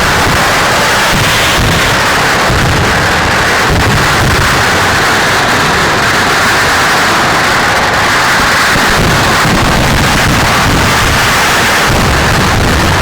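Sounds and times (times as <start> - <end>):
firecracker blasts: 0.0 - 13.0
low fireworks thuds: 0.0 - 13.0.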